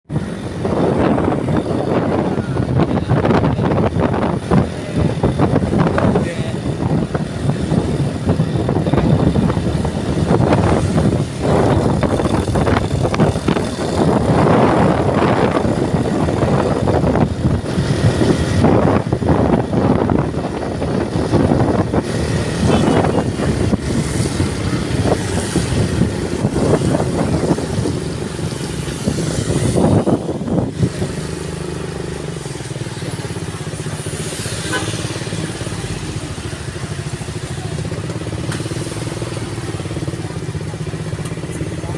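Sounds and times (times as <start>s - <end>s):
vehicle engine and road noise: 0.0s - 41.9s.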